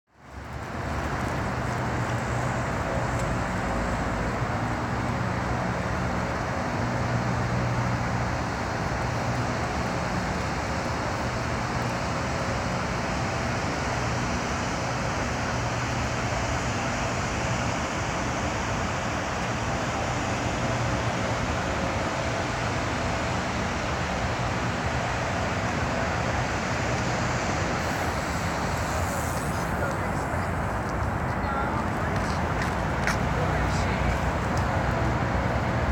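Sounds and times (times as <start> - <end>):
steady engine drone: 0.1 - 35.9.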